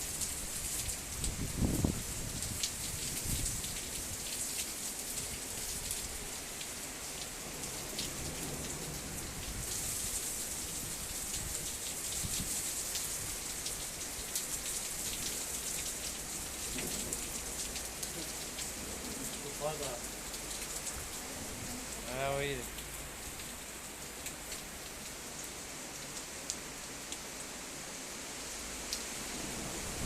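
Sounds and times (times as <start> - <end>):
heavy rain and sleet hissing: 0.0 - 30.0.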